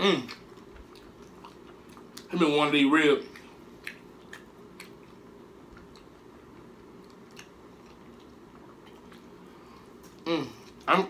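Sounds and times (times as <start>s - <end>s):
person chewing: 0.0s - 2.3s, 3.2s - 10.9s.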